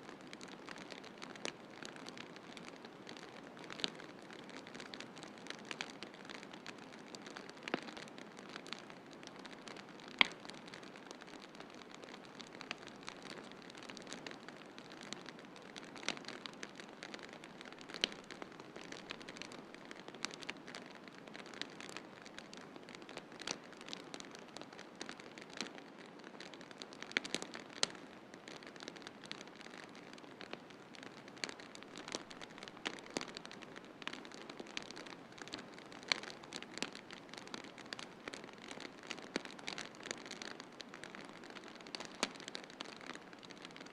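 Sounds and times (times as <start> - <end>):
wood fire crackling: 0.1 - 43.9.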